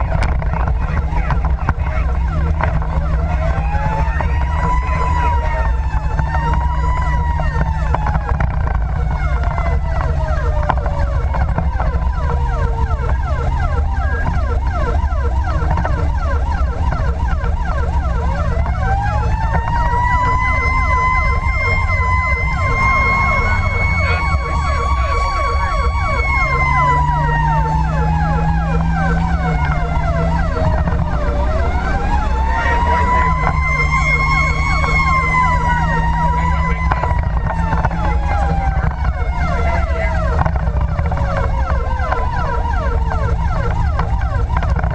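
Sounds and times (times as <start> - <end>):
fast repeating siren yelp: 0.0 - 44.9
fire engine siren wailing: 0.0 - 44.9
truck engine rumbling: 0.0 - 44.9.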